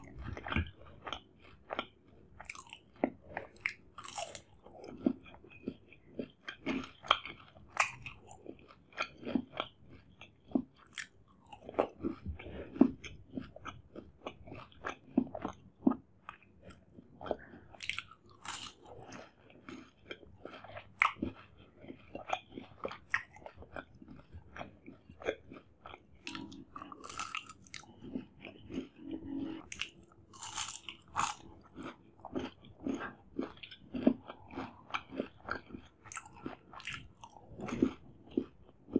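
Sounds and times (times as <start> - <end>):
chewing crunches: 0.0 - 38.9.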